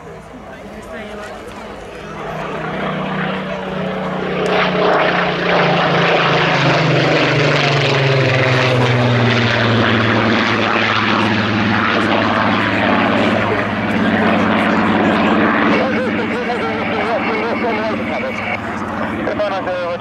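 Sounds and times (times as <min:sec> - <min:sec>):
propeller aircraft engine passing: 0:00.0 - 0:20.0.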